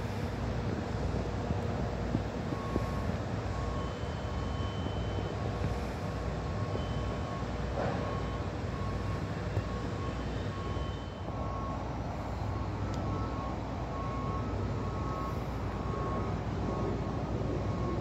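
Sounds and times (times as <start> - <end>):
heavy engines rumbling: 0.0 - 18.0
reversing alarm beeping: 2.2 - 18.0.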